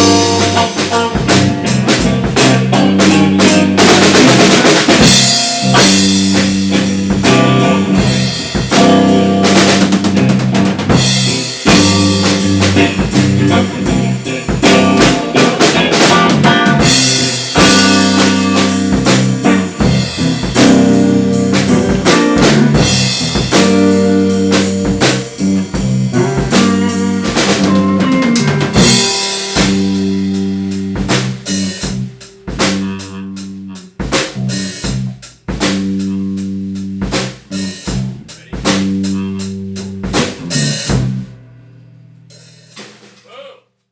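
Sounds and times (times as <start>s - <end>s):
band playing loud jam: 0.0s - 41.4s
drum kit hits: 0.0s - 41.5s.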